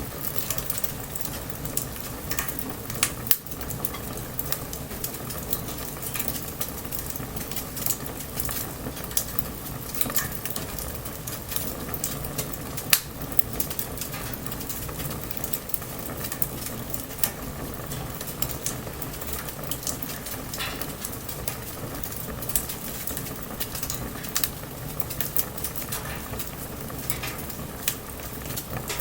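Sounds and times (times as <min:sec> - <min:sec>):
bonfire crackling: 0:00.0 - 0:29.0.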